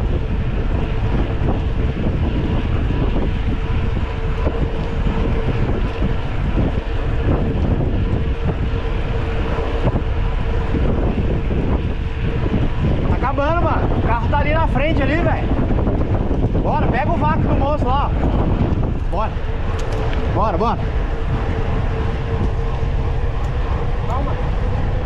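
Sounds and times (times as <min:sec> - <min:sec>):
steady hum: 0:00.0 - 0:25.0
wind buffeting microphone: 0:00.0 - 0:25.0.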